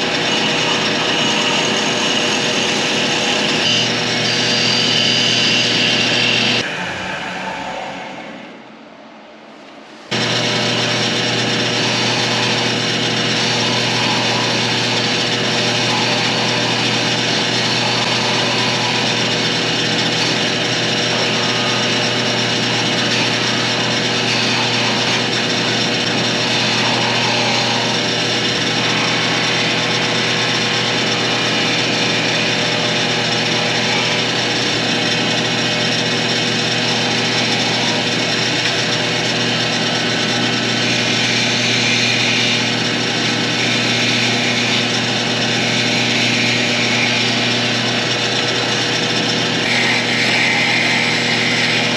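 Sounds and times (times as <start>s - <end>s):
power tool motor humming: 0.0s - 6.7s, 10.1s - 51.9s.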